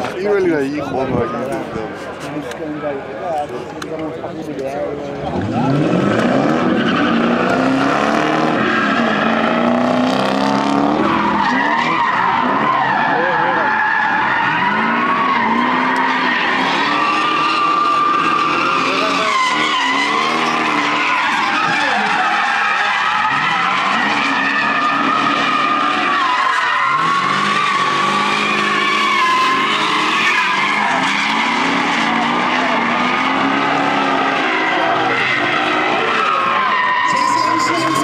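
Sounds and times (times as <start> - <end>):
car engines revving: 0.0 - 38.0
tyres squealing: 6.6 - 38.0.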